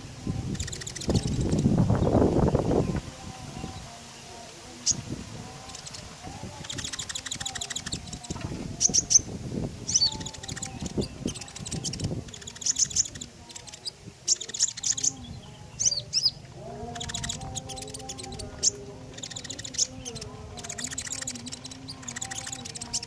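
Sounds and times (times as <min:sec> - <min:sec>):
songbird chirps and trills: 0:00.0 - 0:23.0.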